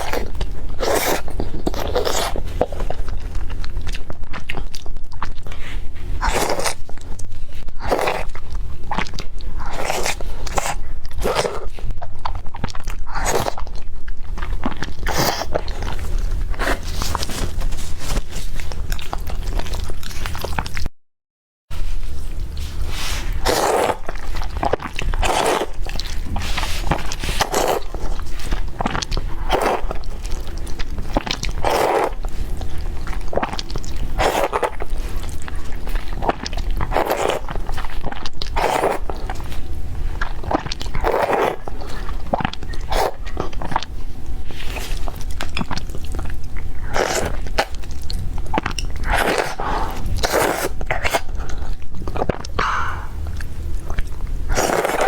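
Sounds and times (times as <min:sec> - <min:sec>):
steady low hum: 0:00.0 - 0:20.9, 0:21.7 - 0:55.0
biting and chewing food: 0:00.0 - 0:21.0, 0:21.7 - 0:55.0.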